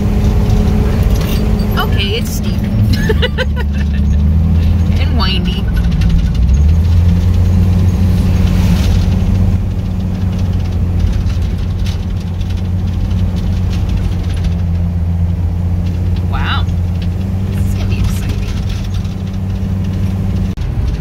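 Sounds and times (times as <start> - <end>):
vehicle engine and road hum: 0.0 - 21.0.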